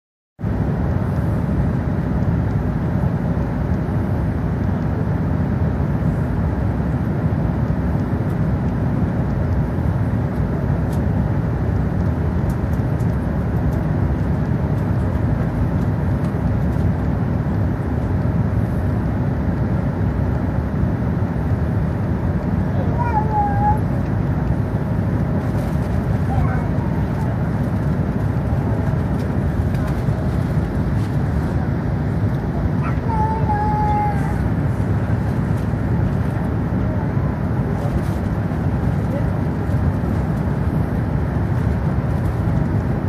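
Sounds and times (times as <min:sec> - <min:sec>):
low jet engine rumble in cabin: 0:00.4 - 0:43.0.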